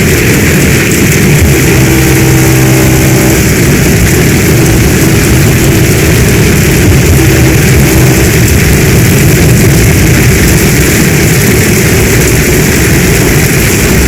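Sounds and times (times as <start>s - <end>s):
heavy rain pouring: 0.0s - 14.0s
low hum: 0.0s - 14.0s.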